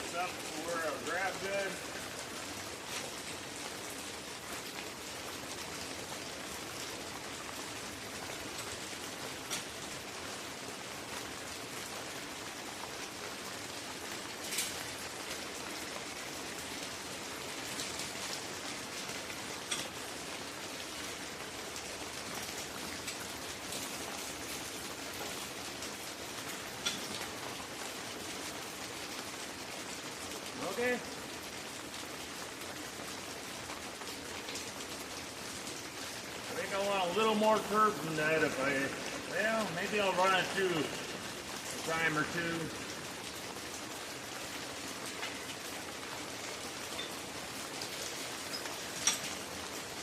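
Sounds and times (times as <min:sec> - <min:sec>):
rain falling: 0:00.0 - 0:50.0.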